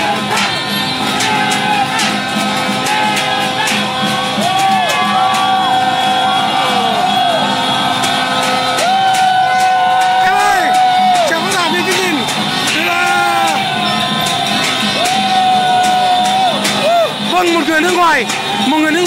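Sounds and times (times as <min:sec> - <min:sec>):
crowd shouting and whooping: 0:00.0 - 0:19.0
plastic horns and vuvuzelas blowing: 0:00.0 - 0:19.0
sharp beats: 0:00.0 - 0:19.0.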